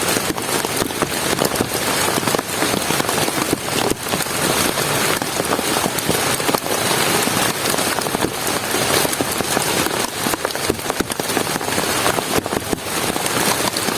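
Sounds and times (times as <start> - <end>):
heavy rain: 0.0 - 13.9
raindrops striking a surface: 0.0 - 13.9.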